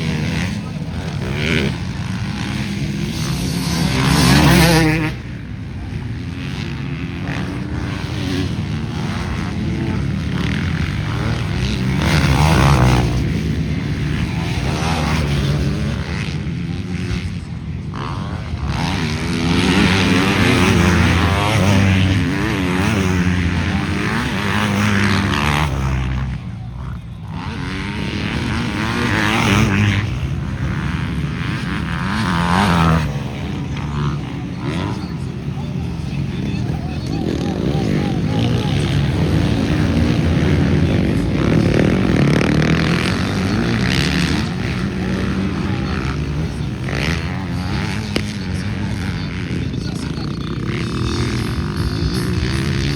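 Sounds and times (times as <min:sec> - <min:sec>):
motorcycle engines revving: 0:00.0 - 0:52.9.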